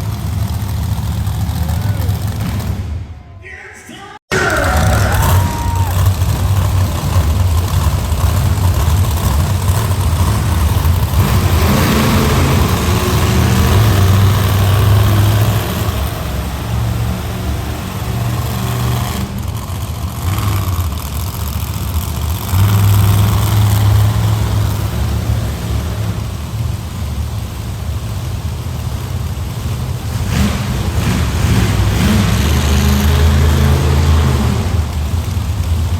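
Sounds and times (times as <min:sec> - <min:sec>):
monster truck engine revving: 0:00.0 - 0:03.4, 0:04.3 - 0:35.9.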